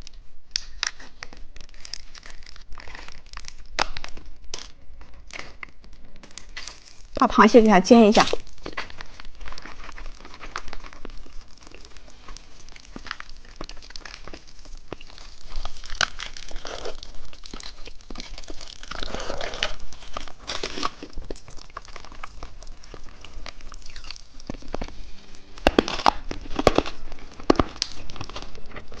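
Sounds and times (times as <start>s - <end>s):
plastic candy wrapper crinkling: 0.0s - 29.0s.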